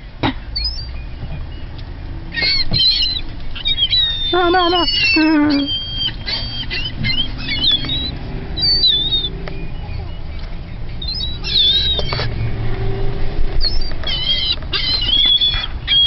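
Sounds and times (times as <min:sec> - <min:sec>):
steady low rumble: 0:00.0 - 0:16.0
gulls calling: 0:00.2 - 0:16.0.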